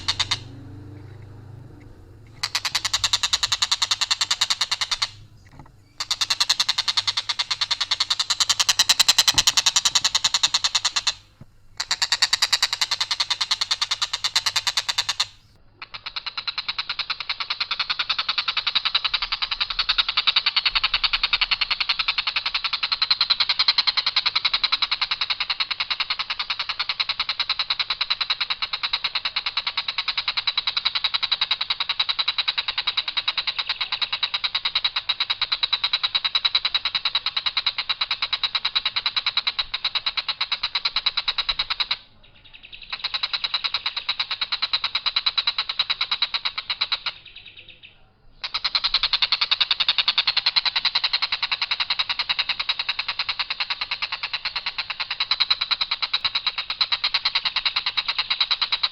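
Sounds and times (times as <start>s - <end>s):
kingfisher rattling call: 0.0s - 58.9s.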